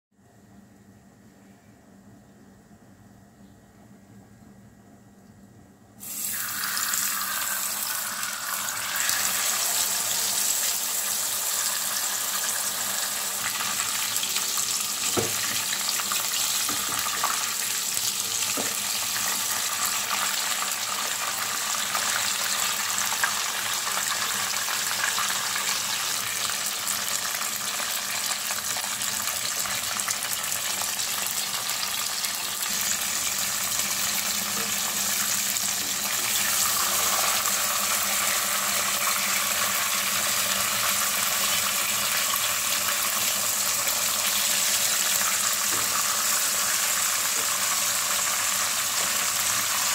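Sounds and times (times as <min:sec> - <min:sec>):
fish sizzling in hot oil: 0:06.0 - 0:49.9.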